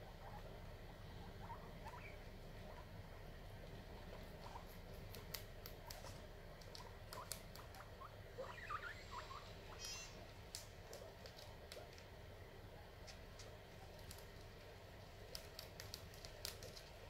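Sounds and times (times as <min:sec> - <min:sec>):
guinea pig squeaks: 0:00.0 - 0:12.3, 0:12.9 - 0:17.0
guinea pigs chewing husks: 0:00.0 - 0:17.0.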